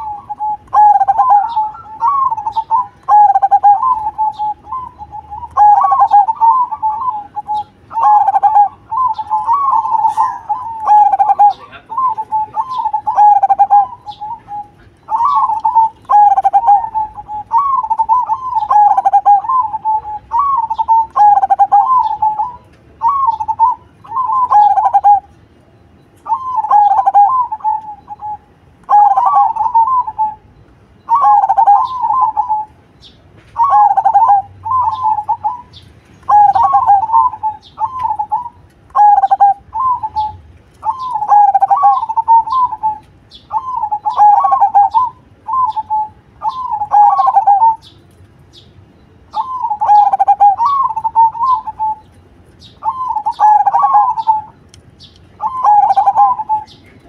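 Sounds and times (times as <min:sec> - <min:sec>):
dove cooing: 0:00.0 - 0:25.4, 0:26.2 - 0:32.8, 0:33.5 - 0:47.9, 0:49.3 - 0:54.6, 0:55.4 - 0:57.0.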